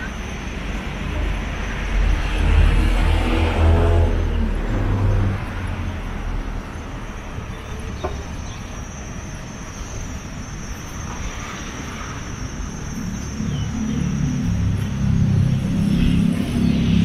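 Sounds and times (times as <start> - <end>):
low rumble of traffic: 0.0 - 17.0
steady high-pitched whine: 0.0 - 17.0.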